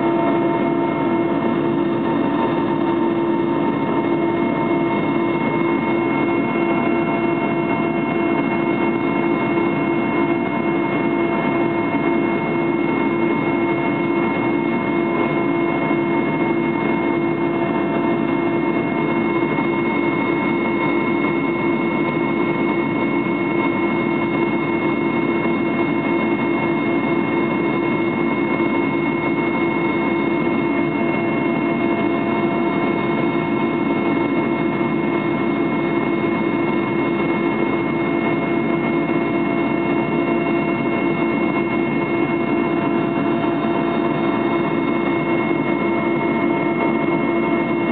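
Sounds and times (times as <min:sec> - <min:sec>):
aircraft engine cabin drone: 0:00.0 - 0:47.9.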